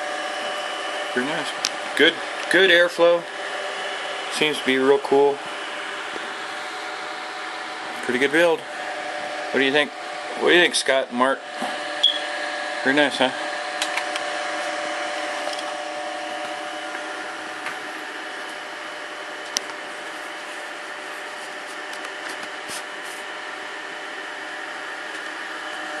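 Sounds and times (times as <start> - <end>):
server cooling fans whirring: 0.0 - 26.0.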